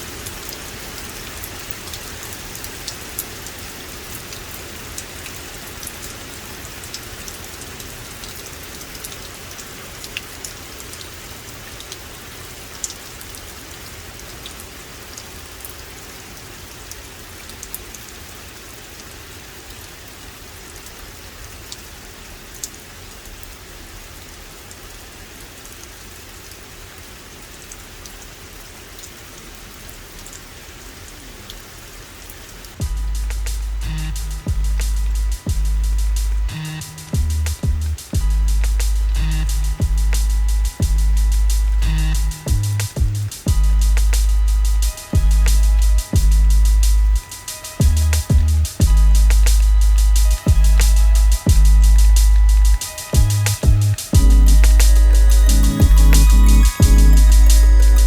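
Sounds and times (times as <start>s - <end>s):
rain falling on forest: 0.0s - 58.0s.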